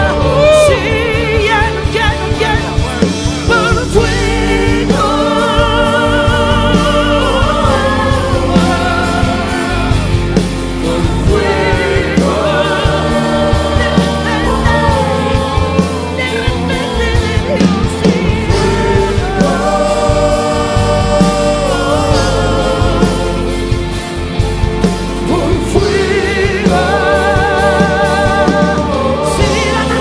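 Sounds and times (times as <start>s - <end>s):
person singing with vibrato: 0.0s - 24.0s, 25.2s - 30.0s
worship music instrumental backing: 0.0s - 30.0s.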